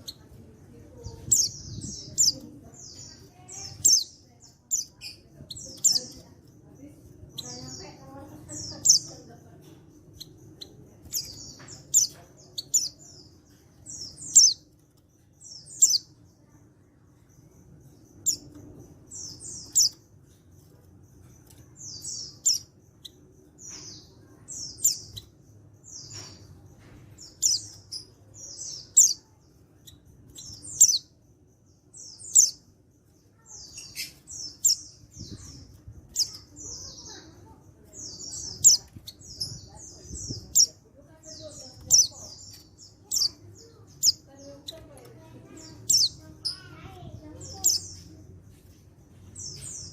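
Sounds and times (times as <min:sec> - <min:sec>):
bird chirping: 0:00.0 - 0:49.9.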